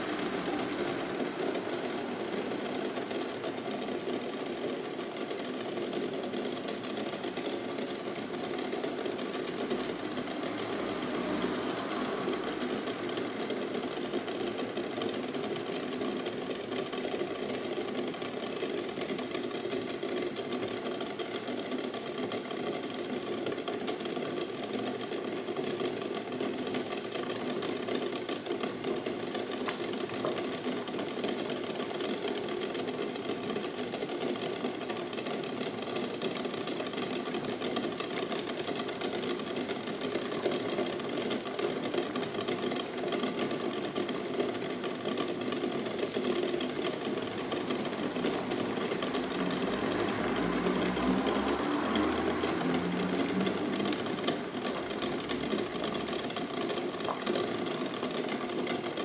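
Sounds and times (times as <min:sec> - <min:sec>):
eggs rattling against a pot: 0:00.0 - 0:59.0
water boiling and bubbling: 0:00.0 - 0:59.0.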